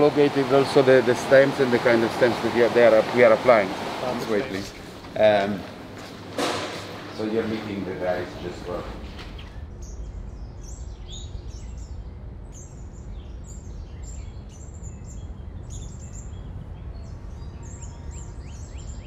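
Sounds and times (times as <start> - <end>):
low outdoor rumble: 0.0 - 18.9
birds chirping: 0.0 - 19.0.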